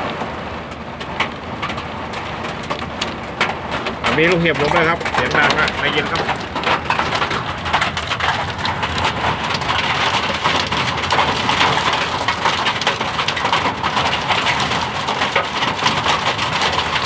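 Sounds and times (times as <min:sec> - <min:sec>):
hail and heavy rain pelting: 0:00.0 - 0:17.0.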